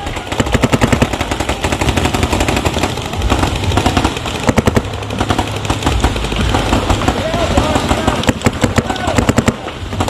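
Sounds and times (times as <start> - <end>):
paintball markers firing: 0.0 - 10.0.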